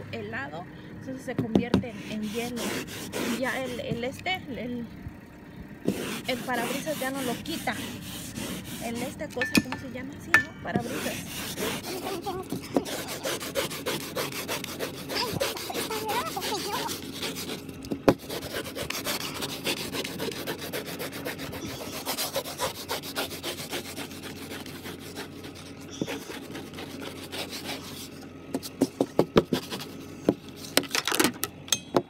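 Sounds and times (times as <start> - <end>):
ice scraper scraping windshield: 1.8 - 4.1, 5.8 - 9.4, 10.7 - 31.3.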